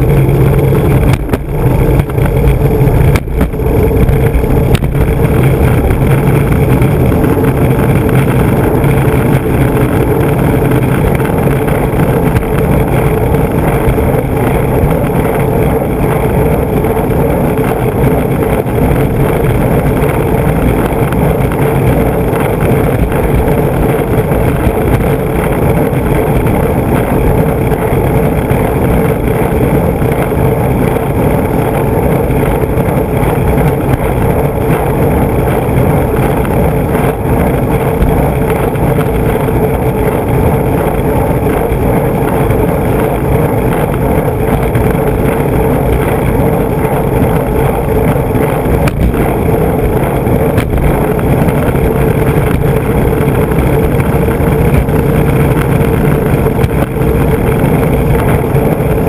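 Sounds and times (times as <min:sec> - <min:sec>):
skateboard wheels rumbling on pavement: 0:00.0 - 0:59.0.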